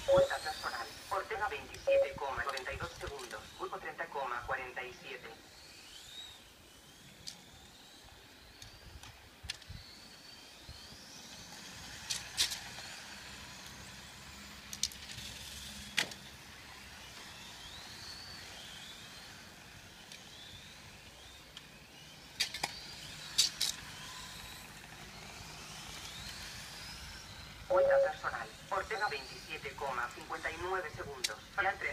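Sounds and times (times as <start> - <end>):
toy car motors whining: 0.0 - 3.9, 5.4 - 31.9.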